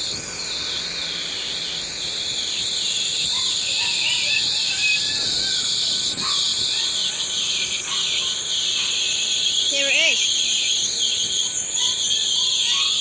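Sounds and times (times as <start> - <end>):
train hissing with whine: 0.0 - 13.0.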